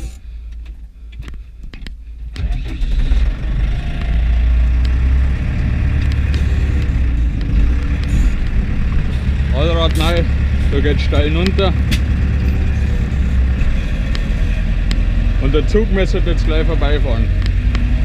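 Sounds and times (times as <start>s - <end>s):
tractor diesel engine: 0.0s - 18.0s.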